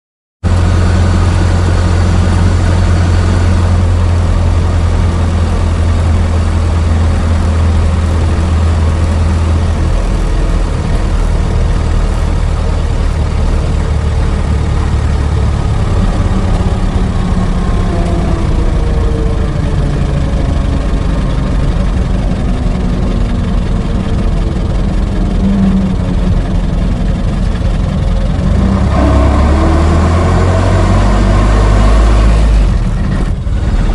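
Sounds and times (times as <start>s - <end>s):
car engine droning: 0.4s - 33.9s.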